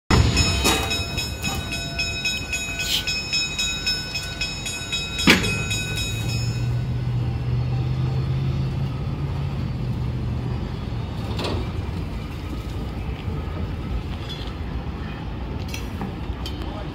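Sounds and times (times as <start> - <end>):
steam locomotive moving slowly: 0.1 - 16.9.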